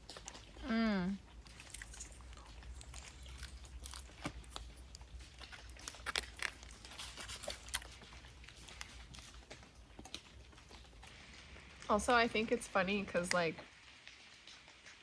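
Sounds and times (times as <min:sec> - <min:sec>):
person chewing with crunches: 0:00.0 - 0:12.2.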